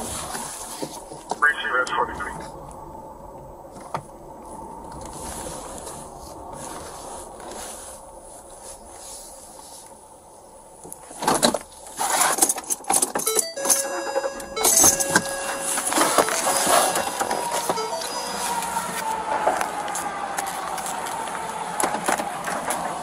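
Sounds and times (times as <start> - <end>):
vehicle cabin noise: 0.0 - 23.0.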